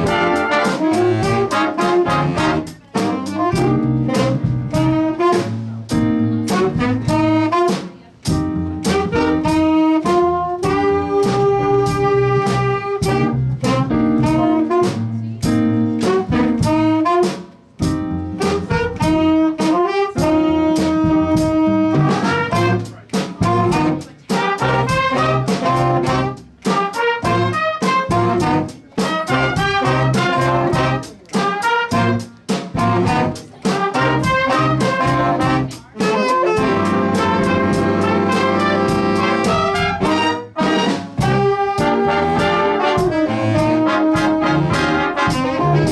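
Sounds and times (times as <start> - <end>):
big band horns playing jazz: 0.0 - 45.9
steady drum beat: 0.0 - 45.9.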